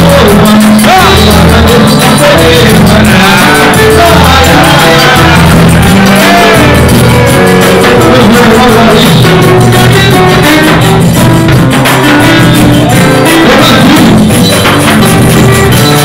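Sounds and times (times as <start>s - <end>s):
acoustic guitar: 0.0s - 16.0s
group singing: 0.0s - 16.0s
pandeiro samba rhythm: 0.0s - 16.0s.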